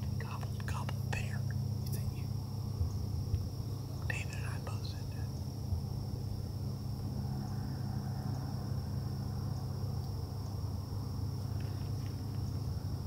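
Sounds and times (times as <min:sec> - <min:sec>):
distant engine drone: 0:00.0 - 0:13.0
high insect trill: 0:00.0 - 0:13.0.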